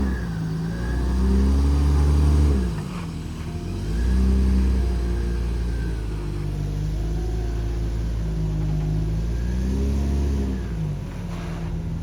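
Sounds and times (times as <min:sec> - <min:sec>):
vehicle engine revving under load: 0:00.0 - 0:12.0.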